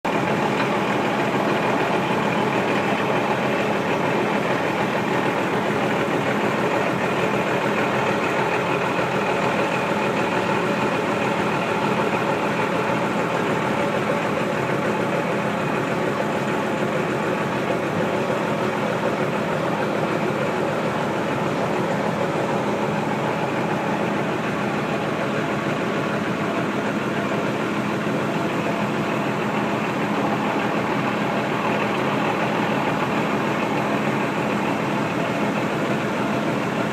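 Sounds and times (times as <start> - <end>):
heavy diesel engine idling: 0.0 - 36.9.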